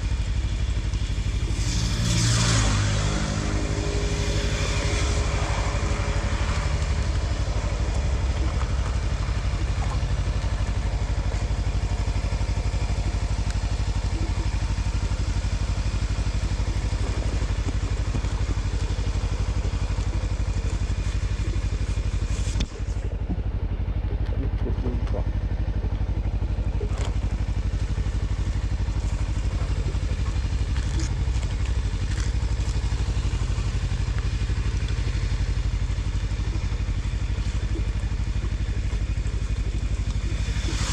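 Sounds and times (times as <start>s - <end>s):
rain: 0.0s - 22.6s, 26.6s - 40.9s
vehicle engine and road rumble: 0.0s - 40.9s.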